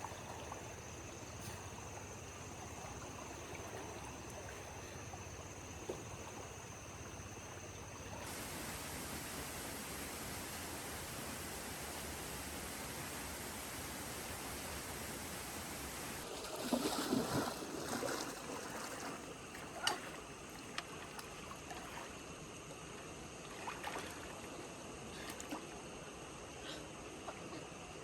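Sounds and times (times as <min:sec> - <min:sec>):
water splashing and sloshing: 0:00.0 - 0:26.0.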